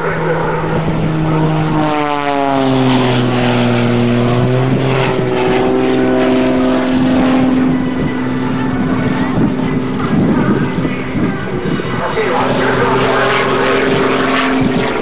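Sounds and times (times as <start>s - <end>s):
biplane engine at full power: 0.0s - 15.0s.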